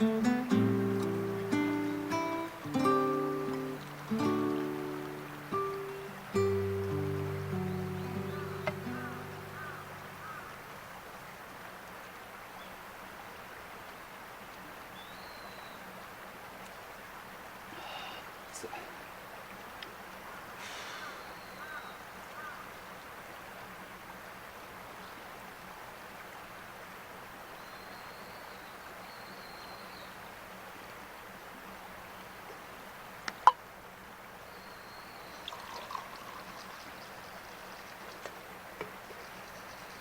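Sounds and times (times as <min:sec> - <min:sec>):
stream water rushing: 0:00.0 - 0:40.0.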